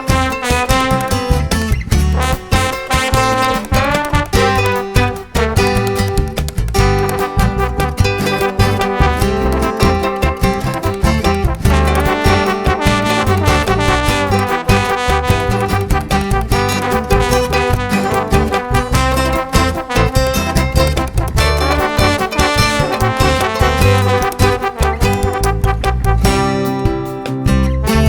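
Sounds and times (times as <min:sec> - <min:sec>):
upbeat swing music with brass: 0:00.0 - 0:28.0.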